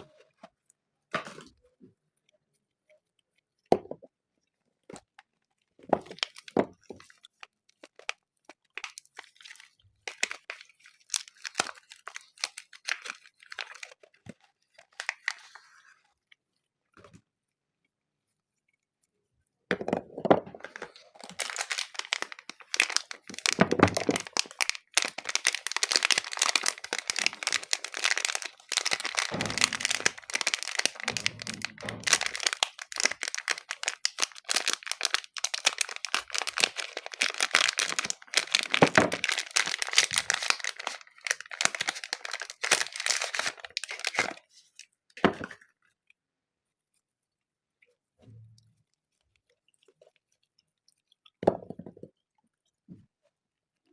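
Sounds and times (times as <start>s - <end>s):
soap wrappers crinkling and tearing: 0.0s - 18.8s, 20.5s - 53.9s.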